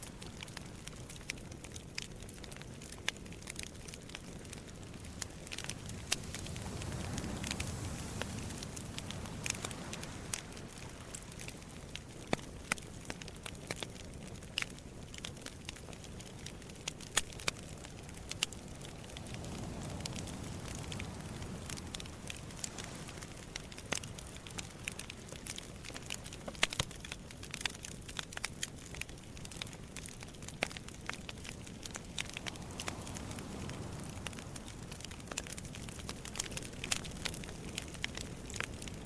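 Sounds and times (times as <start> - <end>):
campfire crackling: 0.0 - 39.0
sea waves: 2.8 - 13.6, 16.0 - 27.7, 29.4 - 39.0.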